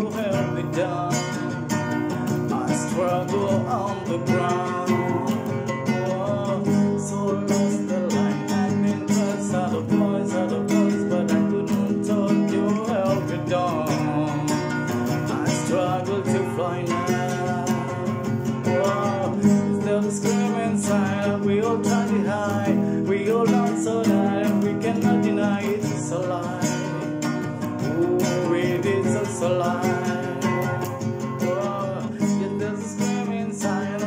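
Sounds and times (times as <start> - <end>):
acoustic guitar strumming: 0.0 - 34.0
man singing: 0.0 - 34.0.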